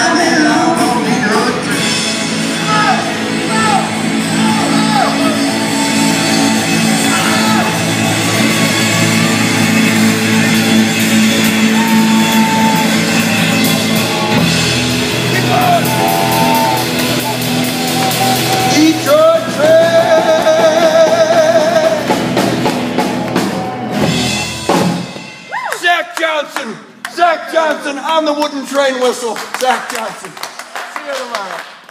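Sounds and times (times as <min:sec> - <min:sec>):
live rock band playing: 0:00.0 - 0:25.7.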